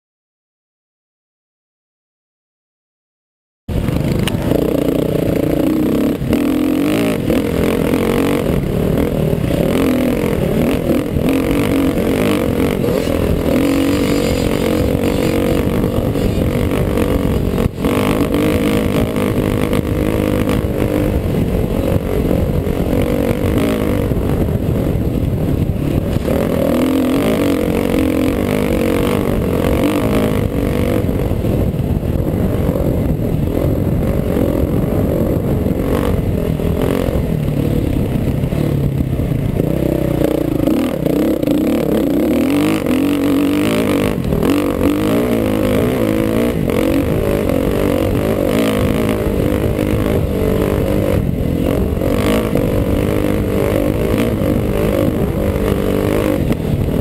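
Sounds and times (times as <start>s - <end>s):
dirt bike engine revving high: 3.7s - 57.0s.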